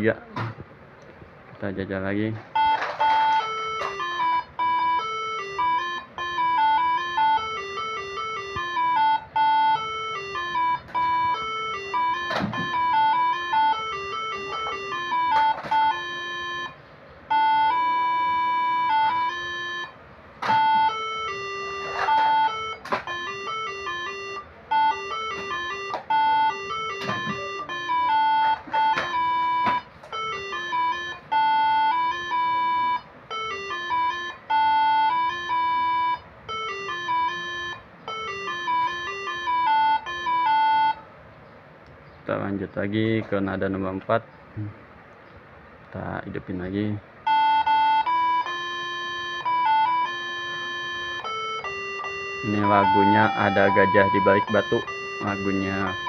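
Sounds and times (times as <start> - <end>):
chiming horn melody: 2.6 - 41.0, 47.3 - 56.0.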